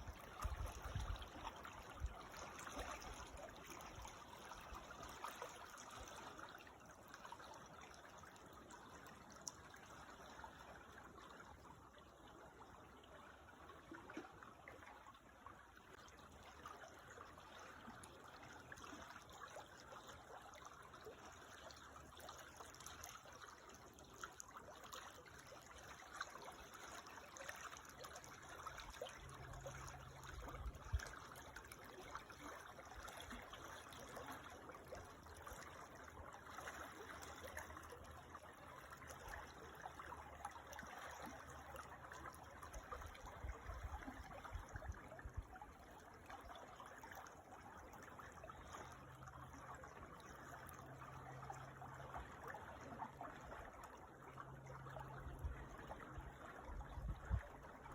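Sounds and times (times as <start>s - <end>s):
creek trickling over stones: 0.0s - 57.9s.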